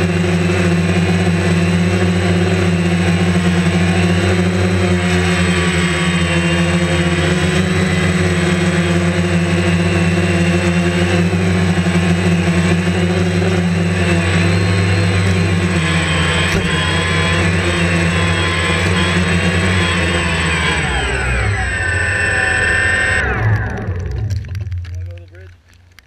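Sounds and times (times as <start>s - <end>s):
drone motors humming: 0.0s - 26.0s.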